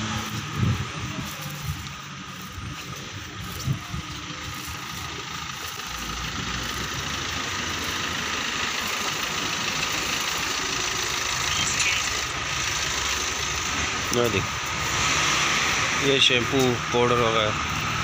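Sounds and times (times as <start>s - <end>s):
street traffic noise: 0.0s - 18.0s
vehicle engine rumbling: 0.0s - 18.0s.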